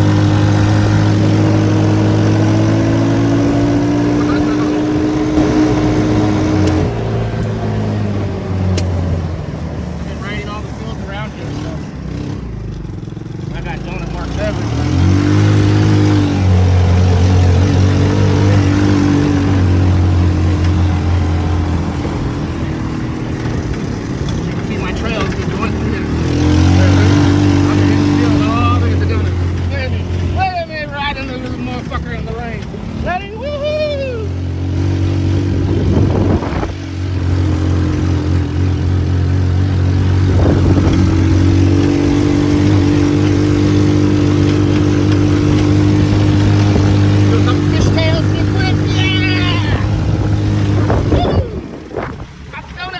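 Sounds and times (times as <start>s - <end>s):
small engine running hard: 0.0s - 52.9s.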